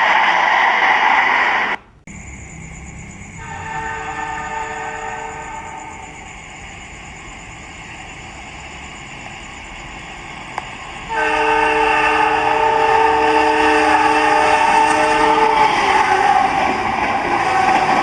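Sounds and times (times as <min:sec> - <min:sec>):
locomotive horn blasts: 0:01.5 - 0:18.0.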